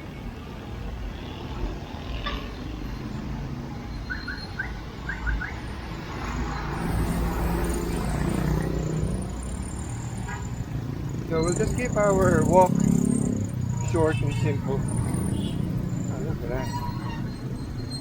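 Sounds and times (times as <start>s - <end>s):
road traffic engine rumble: 0.5s - 18.0s.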